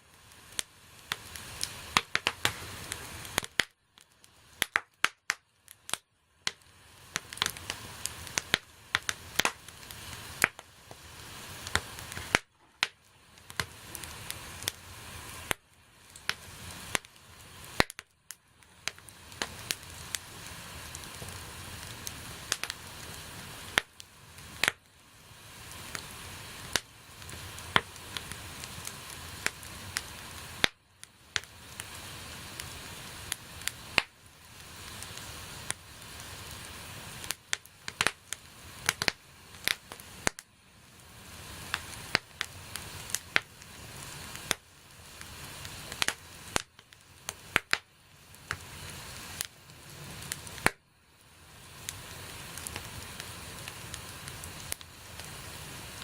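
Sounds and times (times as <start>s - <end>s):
bonfire crackling and popping: 0.0s - 56.0s
hiss of burning: 0.0s - 56.0s.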